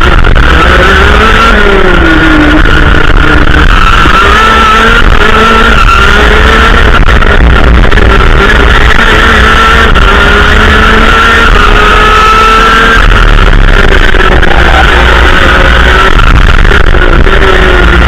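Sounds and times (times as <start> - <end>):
kart engine revving: 0.0 - 18.0
wind rumble on microphone: 0.0 - 18.0.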